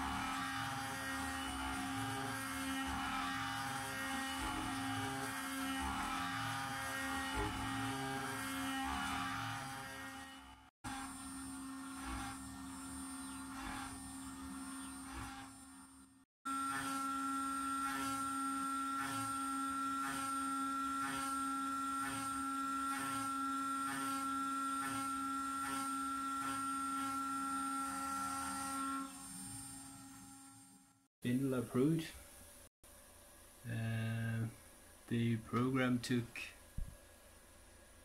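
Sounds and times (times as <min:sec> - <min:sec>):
end mill cutting aluminium: 0:00.0 - 0:30.8
router spindle whining: 0:00.0 - 0:30.8.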